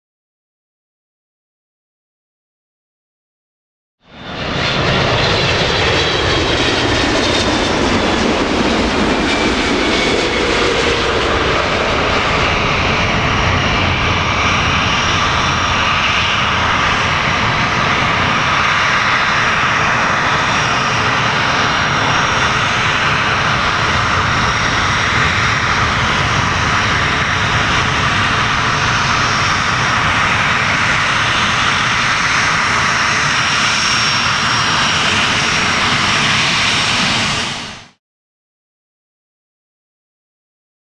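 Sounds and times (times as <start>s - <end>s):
jet engines running with whine: 4.0s - 38.0s.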